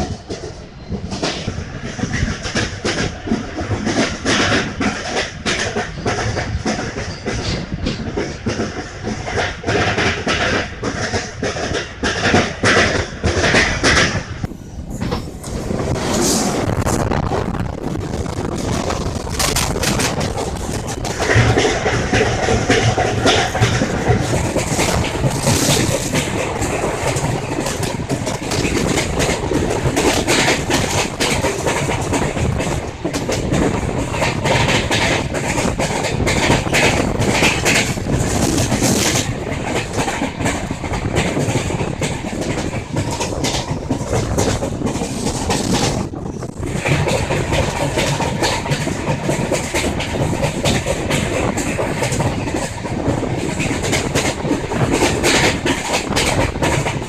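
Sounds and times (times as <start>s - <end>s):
clickety-clack over rail joints: 0.0s - 57.0s
train wheels rumbling on rails: 0.0s - 57.0s.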